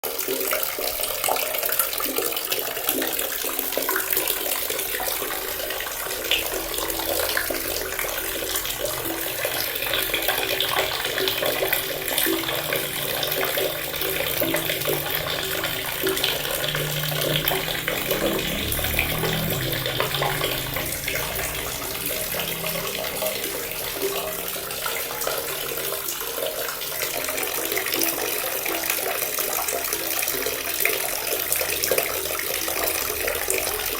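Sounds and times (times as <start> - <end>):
tap water splashing into basin: 0.1 - 33.9.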